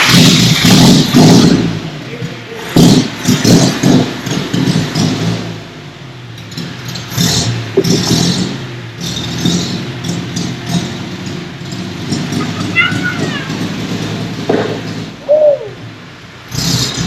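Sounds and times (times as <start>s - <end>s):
old car engine revving: 0.0s - 17.0s.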